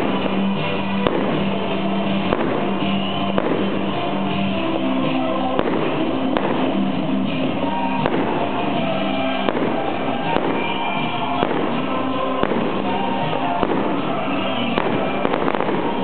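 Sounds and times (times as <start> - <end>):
fireworks banging: 0.0 - 16.0
loud music: 0.0 - 16.0.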